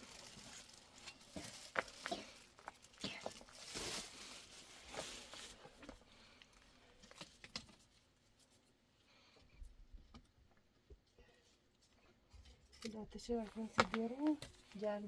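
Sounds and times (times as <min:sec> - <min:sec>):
soft rustling: 0:00.0 - 0:15.0.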